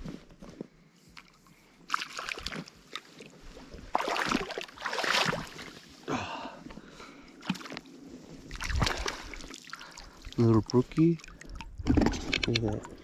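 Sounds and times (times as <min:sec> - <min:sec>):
water splashing and sloshing: 0:01.1 - 0:13.0.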